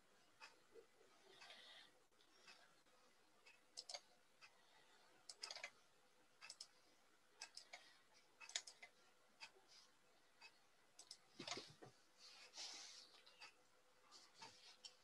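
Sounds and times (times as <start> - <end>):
faint clicks and taps: 0.3 - 5.8, 6.4 - 6.8, 7.4 - 15.0.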